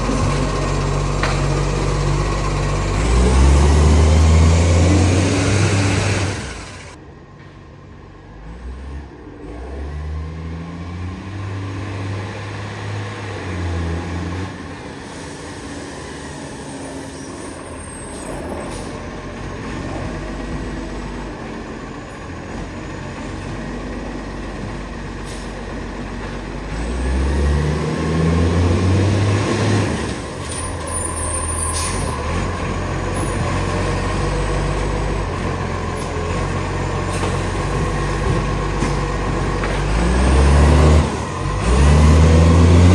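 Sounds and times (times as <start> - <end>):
diesel engine revving and idling: 0.0 - 7.1, 8.0 - 42.9.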